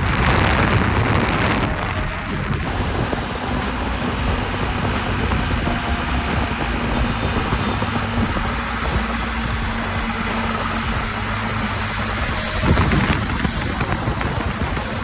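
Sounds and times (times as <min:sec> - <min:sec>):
truck engine idling: 0:02.6 - 0:15.0.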